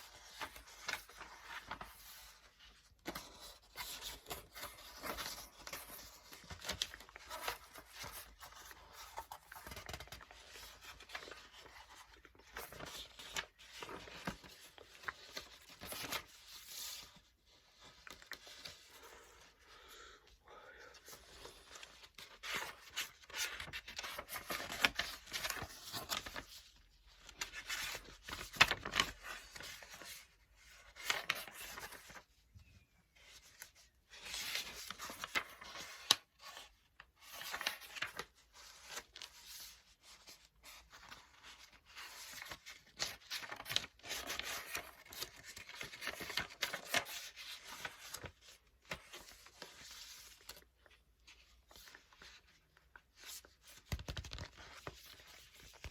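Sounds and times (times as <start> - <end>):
book pages rustling: 0.0 - 19.8, 21.0 - 55.9.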